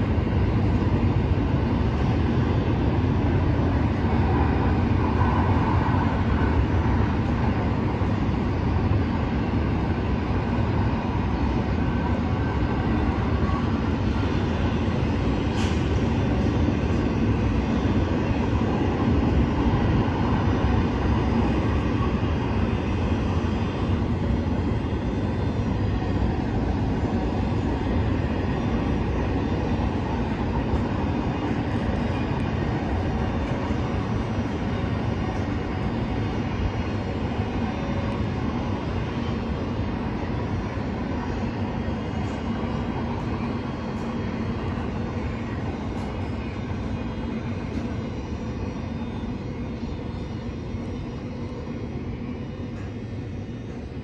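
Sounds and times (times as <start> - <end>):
distant freight train rumble: 0.0 - 54.0.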